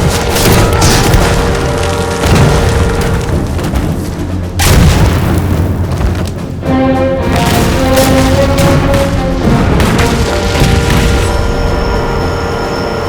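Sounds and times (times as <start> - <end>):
explosions booming: 0.0 - 6.6, 7.2 - 13.0
dramatic orchestral music: 0.0 - 13.0.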